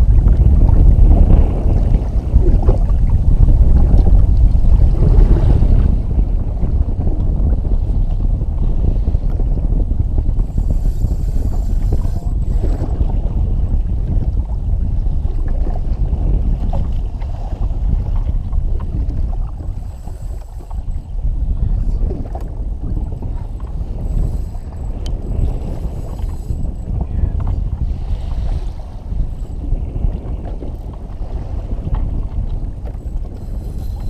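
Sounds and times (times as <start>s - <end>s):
water slapping against hull: 0.0s - 34.0s
wind buffeting microphone: 0.0s - 34.0s.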